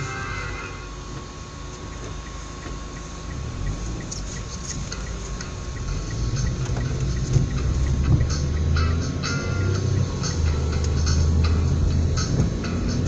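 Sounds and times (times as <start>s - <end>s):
car engine and road rumble: 0.0s - 13.0s
turn signal ticking: 1.0s - 13.0s.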